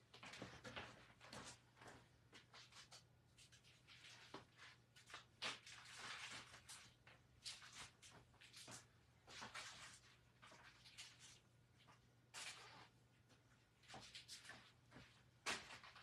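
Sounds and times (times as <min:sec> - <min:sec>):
faint rustles and knocks: 0:00.0 - 0:16.0.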